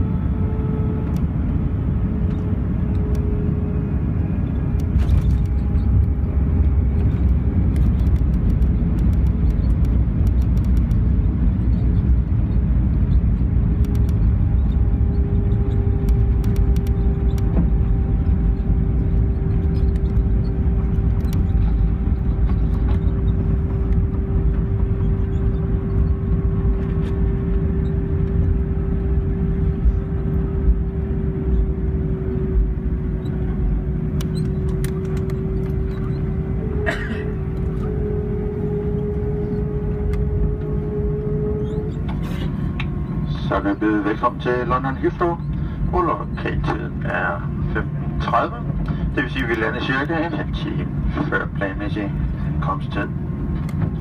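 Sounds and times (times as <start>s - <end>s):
jet engines humming: 0.0s - 54.0s
wheels and airframe rumble: 0.0s - 54.0s.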